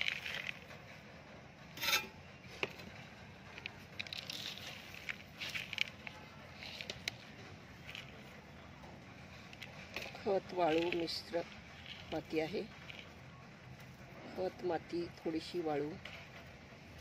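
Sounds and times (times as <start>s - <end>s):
scraping and rustling: 0.0s - 14.3s.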